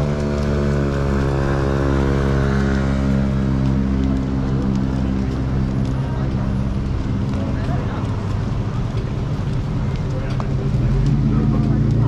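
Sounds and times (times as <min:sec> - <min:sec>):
street traffic noise: 0:00.0 - 0:12.0
truck engine droning: 0:00.0 - 0:12.0.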